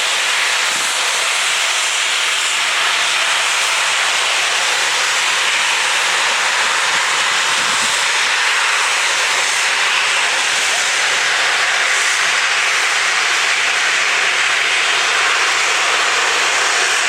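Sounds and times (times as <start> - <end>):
steam hissing: 0.0 - 17.0.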